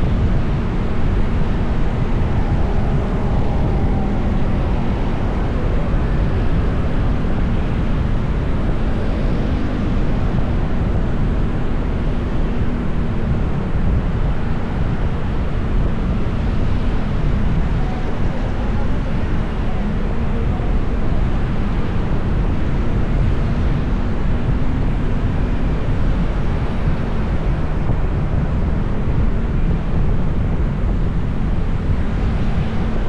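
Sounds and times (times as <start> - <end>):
road traffic rumble: 0.0 - 33.0
wind roar on microphone: 0.0 - 33.0.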